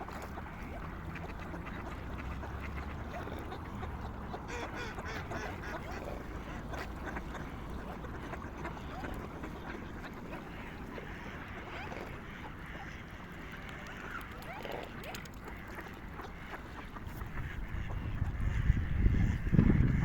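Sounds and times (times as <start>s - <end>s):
swans and waterfowl calling: 0.0s - 20.0s.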